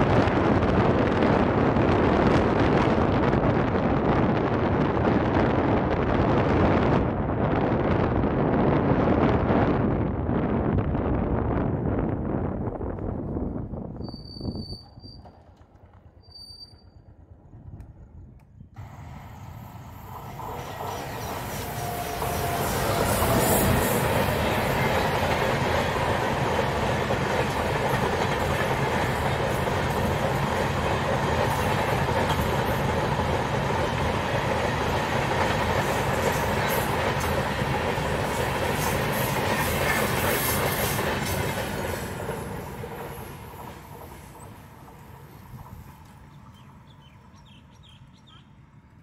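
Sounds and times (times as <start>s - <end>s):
passenger train passing: 0.0s - 49.0s.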